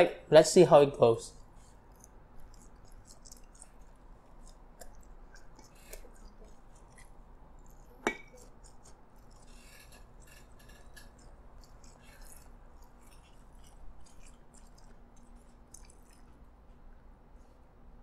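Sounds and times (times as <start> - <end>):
chewing fried food: 1.4 - 17.6.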